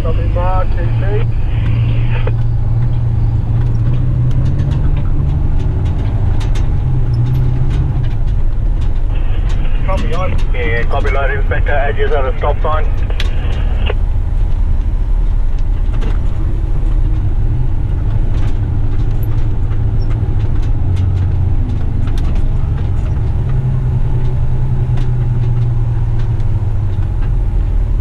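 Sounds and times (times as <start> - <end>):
diesel truck engine droning: 0.0 - 28.0
faint clicks and rattles: 1.6 - 27.7.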